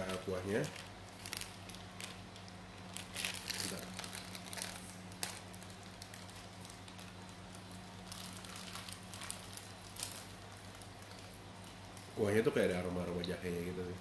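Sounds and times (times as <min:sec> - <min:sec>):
plastic bag crinkling: 0:00.0 - 0:13.6
steady low hum: 0:00.0 - 0:14.0.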